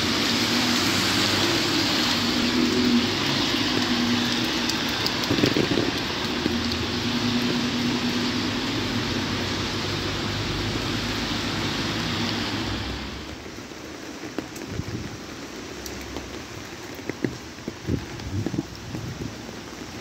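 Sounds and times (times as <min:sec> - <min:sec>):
car engines humming in traffic: 0:00.0 - 0:20.0
heavy rain on wet street: 0:00.0 - 0:20.0.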